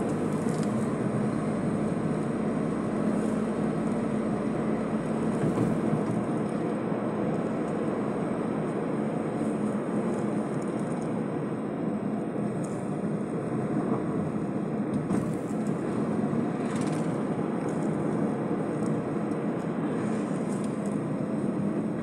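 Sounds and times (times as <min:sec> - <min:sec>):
vehicle road and engine noise: 0:00.0 - 0:22.0.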